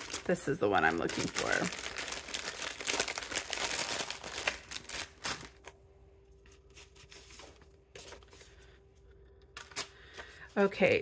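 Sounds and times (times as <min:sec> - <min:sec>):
paper rustling and crinkling: 0:00.0 - 0:08.8, 0:09.5 - 0:11.0.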